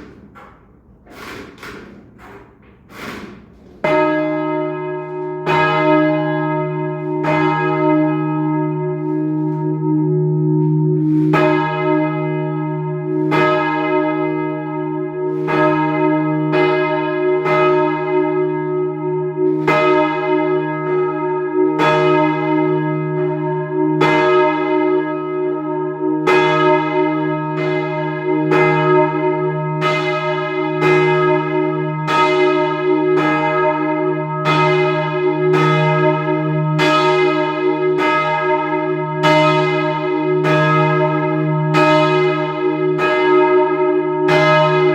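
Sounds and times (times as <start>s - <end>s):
heavy church bells ringing: 0.0s - 44.9s.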